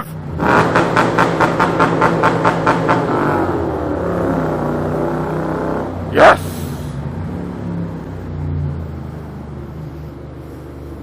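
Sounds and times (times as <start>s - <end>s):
motorcycle engine revving in tunnel: 0.0s - 6.2s, 6.9s - 10.9s.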